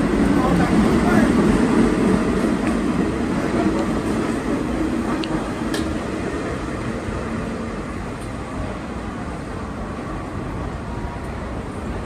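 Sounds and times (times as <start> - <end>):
subway train running past: 0.0 - 12.0.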